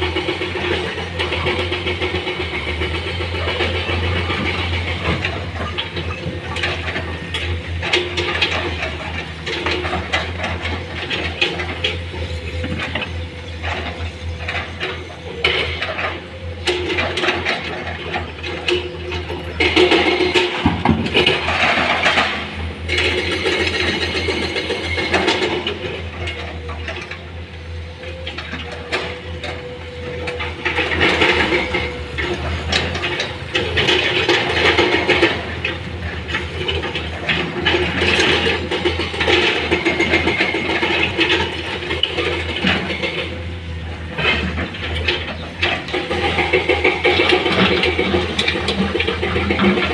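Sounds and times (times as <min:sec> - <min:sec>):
excavator engine drone: 0:00.0 - 0:49.9
metallic clanks and rattling: 0:00.2 - 0:27.3, 0:30.3 - 0:49.9.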